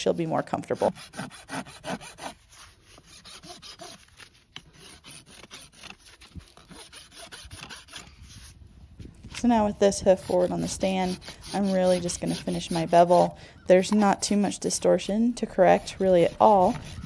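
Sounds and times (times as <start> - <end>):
rasp scraping a hoof: 0.0 - 8.6, 9.2 - 17.0.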